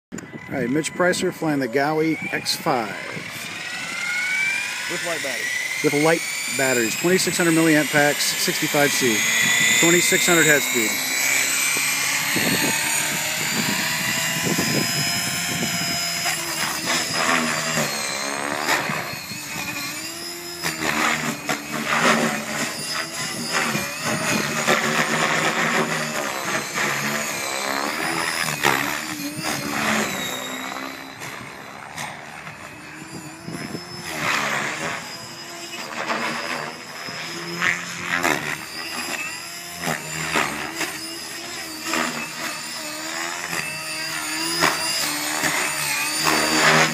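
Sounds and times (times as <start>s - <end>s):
rc helicopter motor whine: 0.1s - 46.9s
spinning rotor blades: 0.2s - 46.9s.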